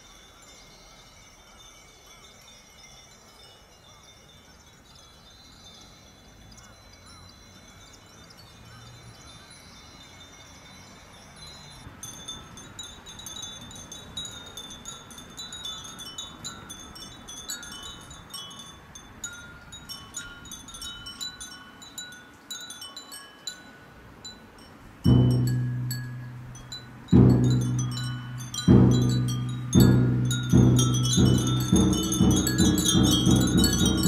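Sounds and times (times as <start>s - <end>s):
glass wind chimes tinkling: 0.0s - 34.0s.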